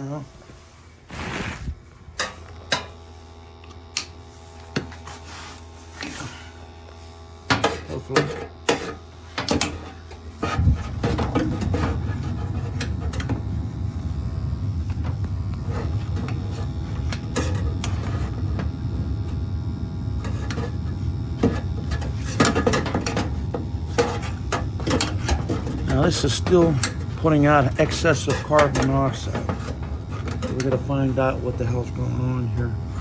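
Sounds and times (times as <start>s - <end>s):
gas burner lighting and rumbling: 0.0s - 33.0s.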